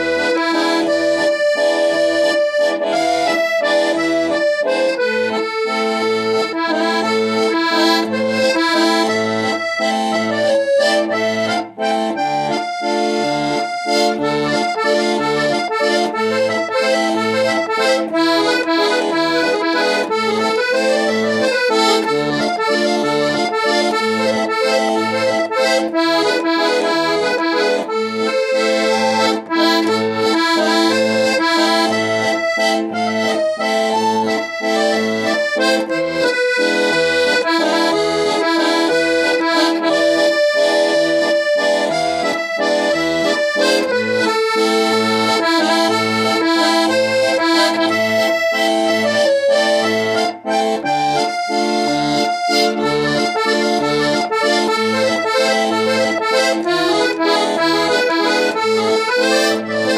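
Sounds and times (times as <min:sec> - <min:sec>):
accordion waltz: 0:00.0 - 0:59.9.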